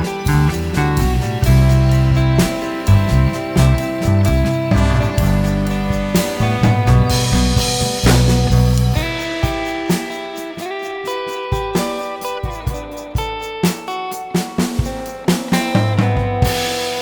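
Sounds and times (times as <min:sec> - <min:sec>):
guitar with drums music: 0:00.0 - 0:17.0.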